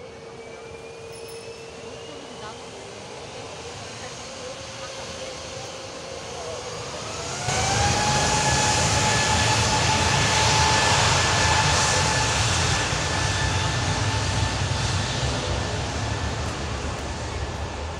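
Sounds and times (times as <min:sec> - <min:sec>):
jet engines spooling up: 0:00.0 - 0:17.9.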